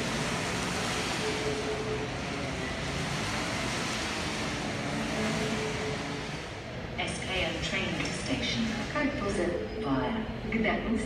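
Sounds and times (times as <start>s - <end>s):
distant train engine and rolling: 0.0s - 11.0s.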